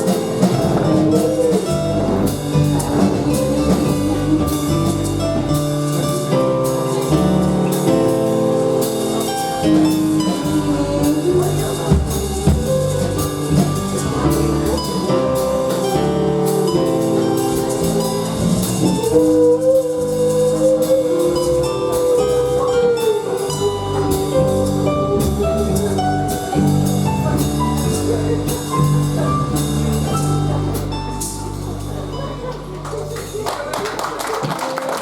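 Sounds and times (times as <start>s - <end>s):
live band playing: 0.0s - 35.0s.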